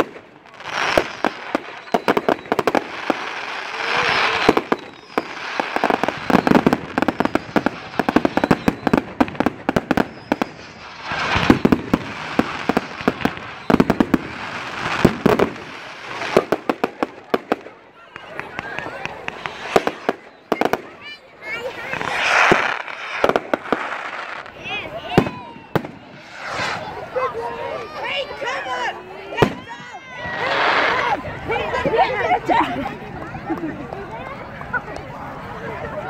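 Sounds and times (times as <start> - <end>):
fireworks cracks and bangs: 0.0 - 31.2
fireworks crackling: 0.0 - 36.0.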